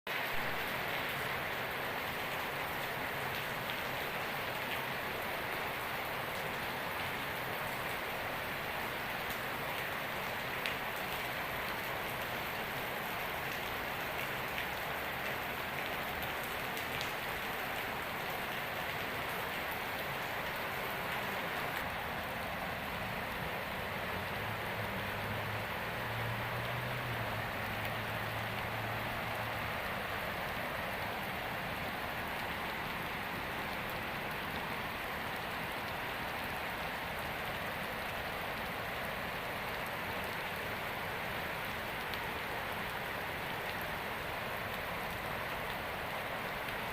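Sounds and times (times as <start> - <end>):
heavy rain pouring: 0.1 - 46.9.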